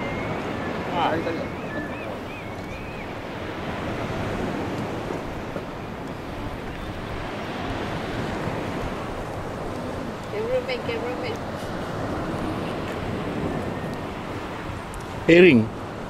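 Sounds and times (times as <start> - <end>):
sea water lapping: 0.0 - 16.0
wind on the microphone: 0.0 - 16.0.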